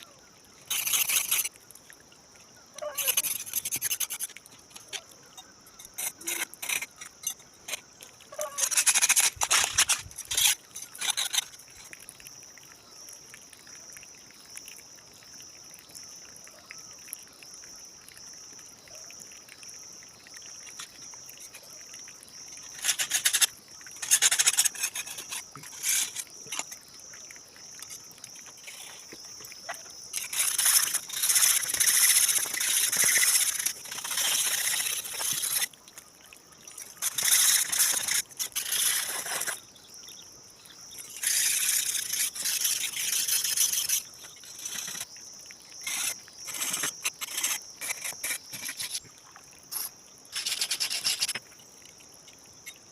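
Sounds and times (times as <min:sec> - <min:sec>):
high insect chirr: 0:00.0 - 0:52.9.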